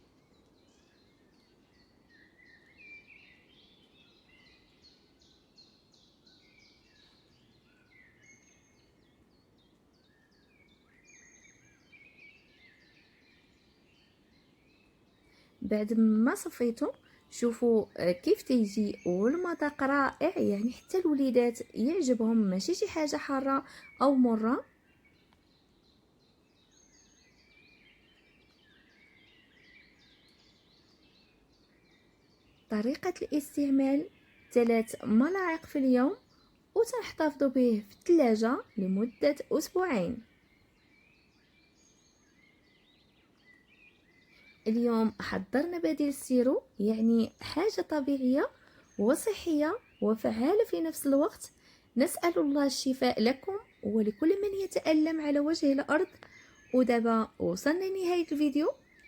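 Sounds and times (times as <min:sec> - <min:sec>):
low steady background hiss: 0:00.0 - 0:59.0
small birds chirping: 0:00.0 - 0:59.0.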